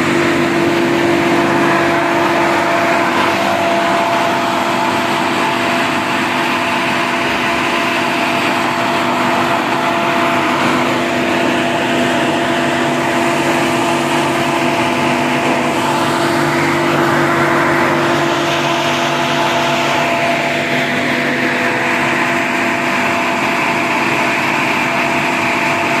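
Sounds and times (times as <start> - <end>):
air compressor engine drone: 0.0 - 26.0.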